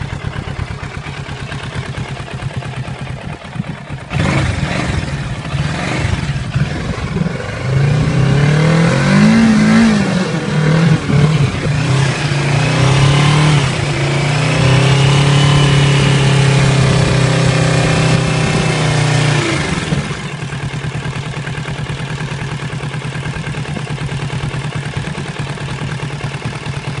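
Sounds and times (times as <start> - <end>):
motorcycle engine idling: 0.0 - 27.0
motorcycle engine revving: 0.0 - 27.0.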